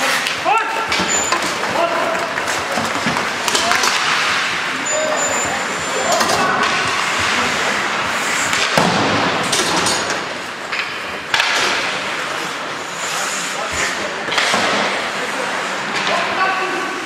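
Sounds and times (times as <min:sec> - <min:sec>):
sticks and puck clacking: 0:00.0 - 0:05.1, 0:05.7 - 0:16.4
skates scraping ice: 0:00.0 - 0:09.5, 0:10.3 - 0:17.0.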